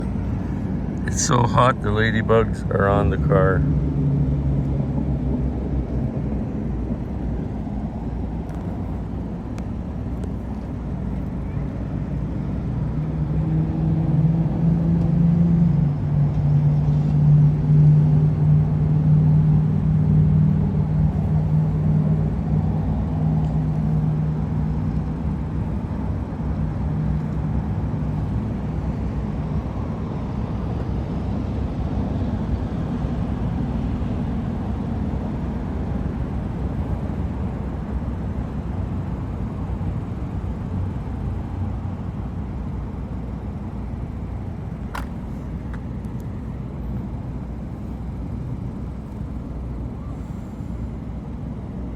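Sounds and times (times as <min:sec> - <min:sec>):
constant low rumble: 0:00.0 - 0:51.9
vehicle engine humming: 0:00.0 - 0:51.9.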